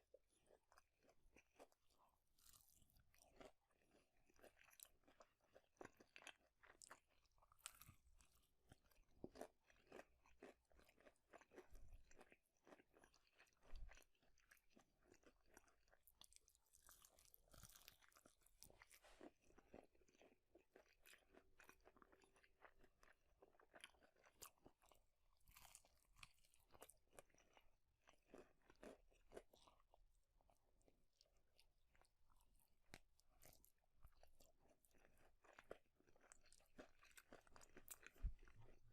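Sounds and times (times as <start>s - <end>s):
close chewing with crunchy bites: 0.0s - 38.9s.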